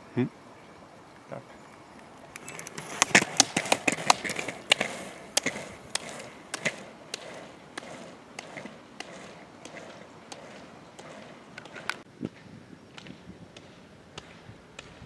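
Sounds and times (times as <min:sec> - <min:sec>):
roller-ski wheels rolling: 0:00.0 - 0:15.0
ski poles clicking on asphalt: 0:01.6 - 0:15.0.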